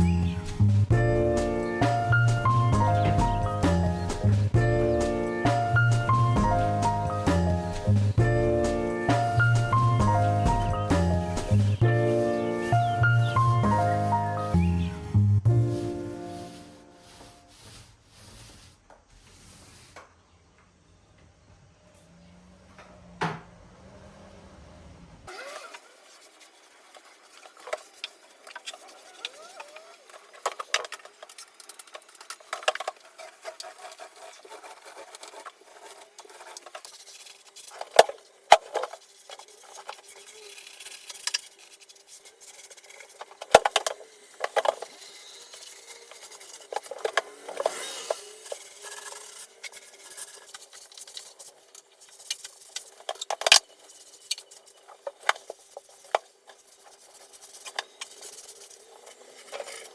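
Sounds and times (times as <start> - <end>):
hand rubbing and scraping surface: 0.0 - 20.5, 25.3 - 59.9.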